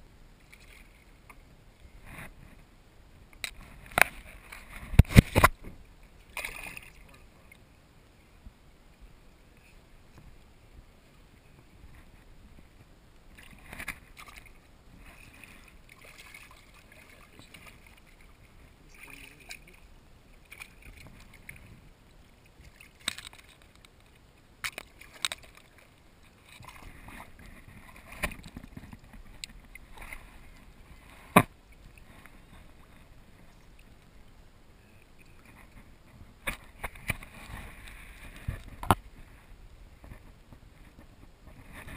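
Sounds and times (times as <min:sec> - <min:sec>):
water splashing against kayak: 0:00.3 - 0:41.9.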